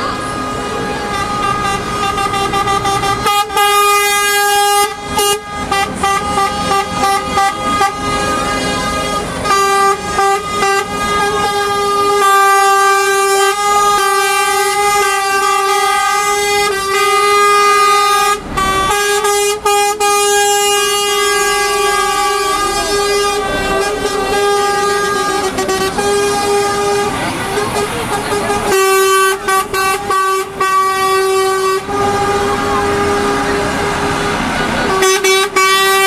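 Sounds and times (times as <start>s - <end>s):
truck air horns blowing: 0.0s - 36.0s
trucks driving past: 0.0s - 36.0s.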